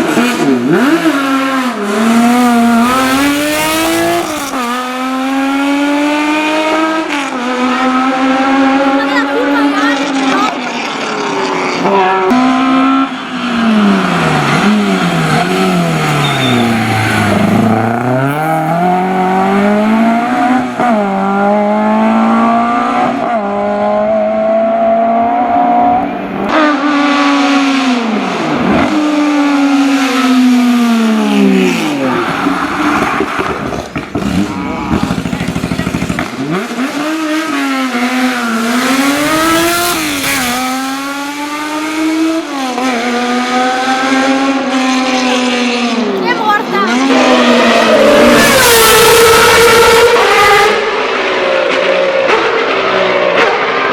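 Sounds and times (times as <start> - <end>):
rally car engines at full throttle: 0.0 - 53.9
cars sweeping past at speed: 10.0 - 46.2, 46.9 - 53.9.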